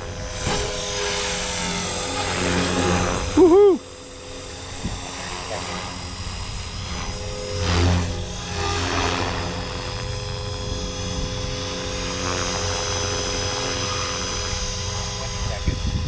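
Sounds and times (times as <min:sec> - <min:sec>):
rc helicopter motor whine: 0:00.0 - 0:16.0
rotor blades whooshing: 0:00.0 - 0:16.0.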